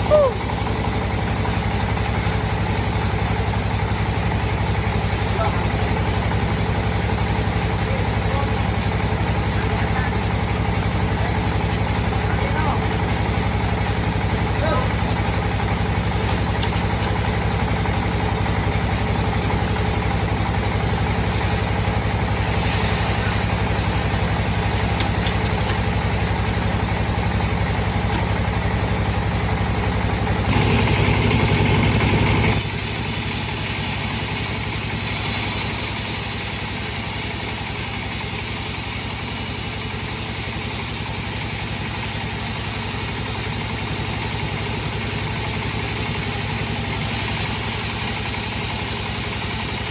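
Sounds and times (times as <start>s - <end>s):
bandsaw machine humming: 0.0s - 49.9s.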